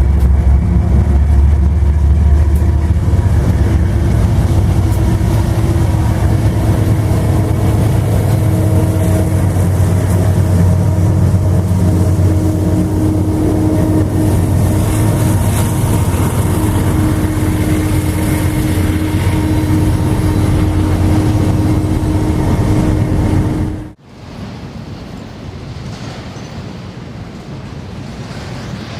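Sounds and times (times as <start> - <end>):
diesel locomotive engine drone: 0.0 - 24.0
held hum: 0.0 - 24.0.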